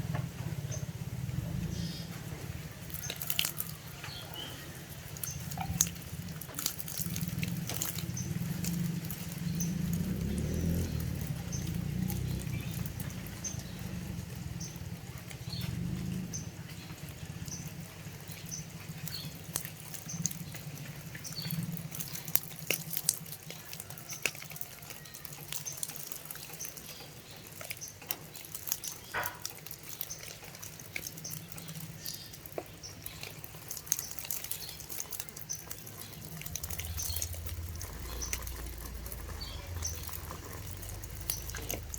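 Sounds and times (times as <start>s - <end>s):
water splashing and dripping: 0.2s - 41.9s.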